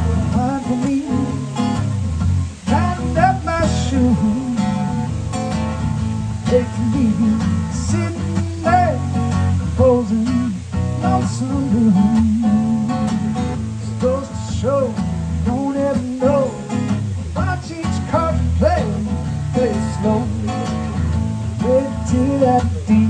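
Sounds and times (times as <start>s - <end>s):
acoustic guitar strummed and picked: 0.0s - 23.0s.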